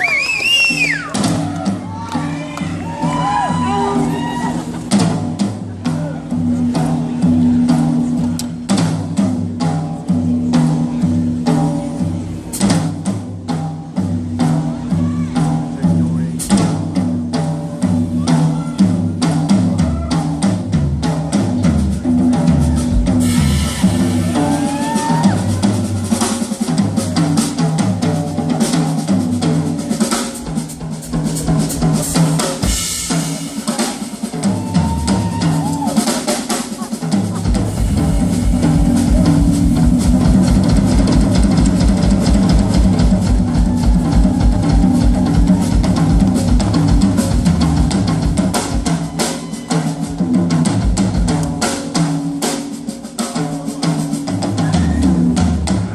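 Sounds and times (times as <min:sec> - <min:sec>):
pounding bass drum: 0:00.0 - 0:52.8
live rock band playing: 0:00.0 - 0:55.9.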